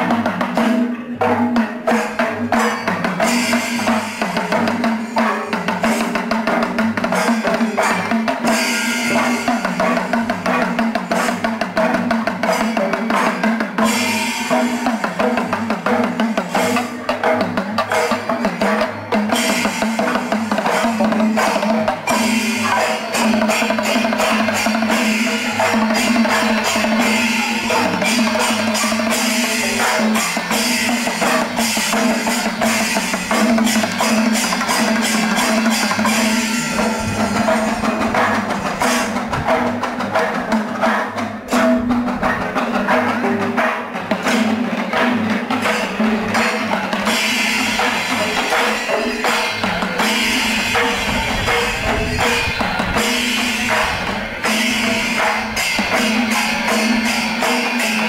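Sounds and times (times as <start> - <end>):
fast drums and percussion: 0.0 - 58.0.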